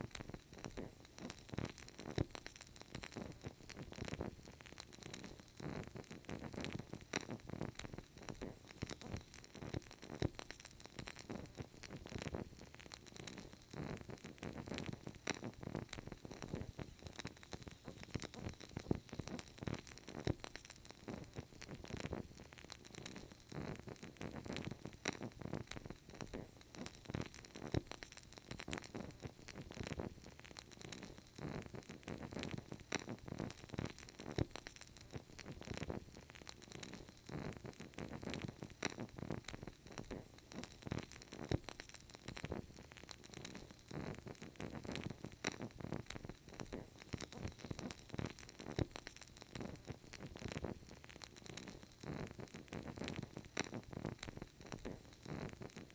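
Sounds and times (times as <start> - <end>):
candle crackling: 0.0 - 55.9
faint hiss: 0.0 - 55.9.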